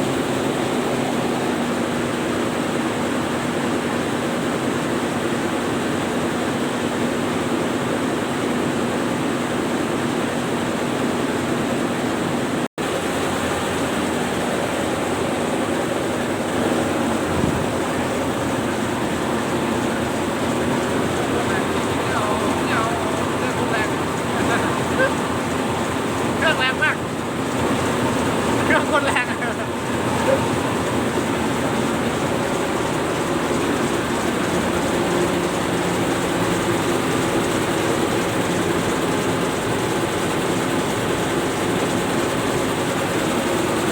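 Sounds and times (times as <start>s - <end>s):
boat engines running: 0.0s - 43.9s
rush of wind and water: 0.0s - 43.9s.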